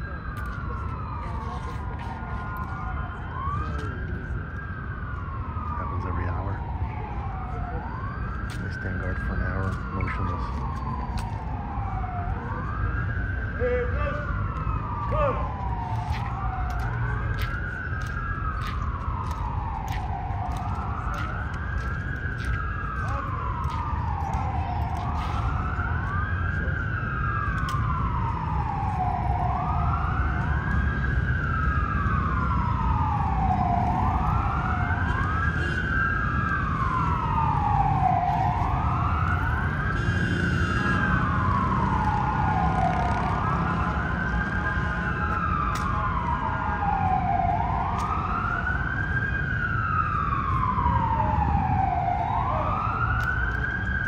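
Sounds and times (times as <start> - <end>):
emergency vehicle siren wailing: 0.0 - 54.0
low rumble of city traffic: 0.0 - 54.0.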